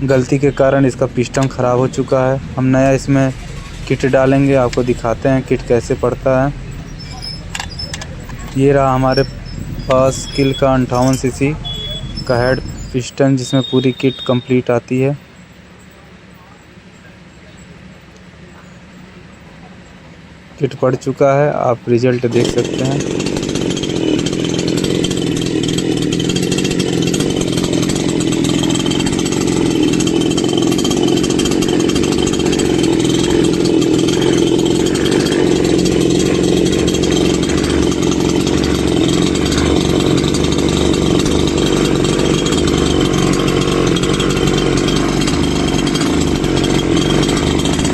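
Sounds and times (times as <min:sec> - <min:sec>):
chainsaw engine running: 0:00.0 - 0:20.7, 0:21.5 - 0:47.9.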